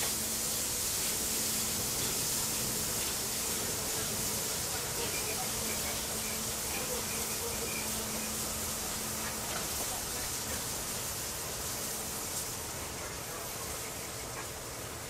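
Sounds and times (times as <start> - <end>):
steam hissing from a locomotive: 0.0 - 15.0.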